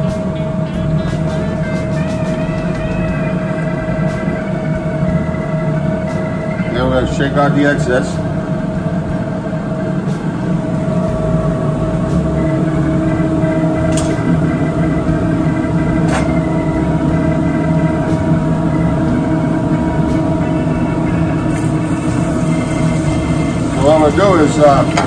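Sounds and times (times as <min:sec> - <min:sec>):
kitchen machine hum: 0:00.0 - 0:25.0.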